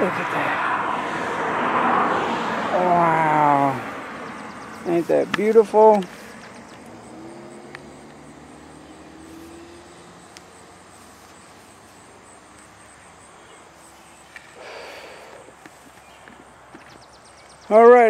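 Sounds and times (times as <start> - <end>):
distant engine hum: 0.0 - 18.0.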